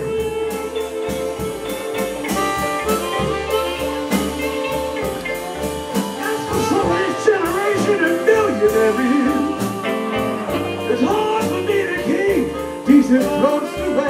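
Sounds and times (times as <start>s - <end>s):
amplified harmonica: 0.0s - 14.0s
blues band playing: 0.0s - 14.0s.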